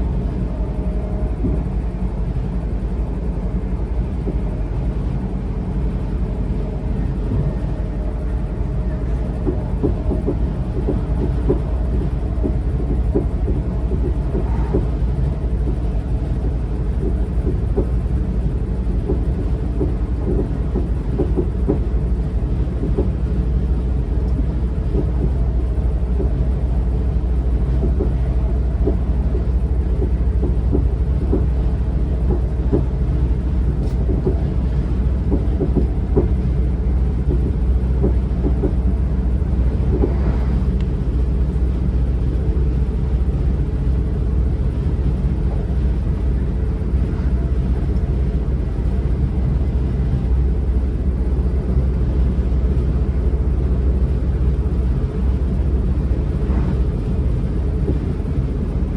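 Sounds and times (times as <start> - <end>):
train running gear rumble: 0.0 - 58.9.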